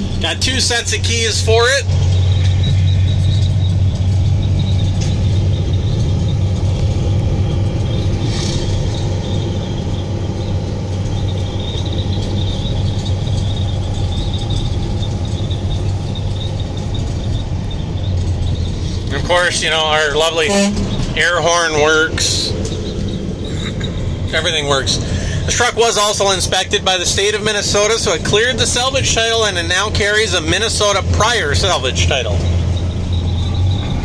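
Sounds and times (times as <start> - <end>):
road noise: 0.0 - 34.0
truck diesel engine drone: 0.0 - 34.0.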